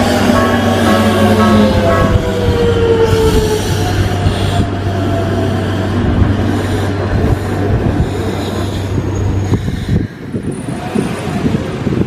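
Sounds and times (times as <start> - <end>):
train rumbling past: 0.0 - 12.0
wind buffeting microphone: 0.0 - 12.0.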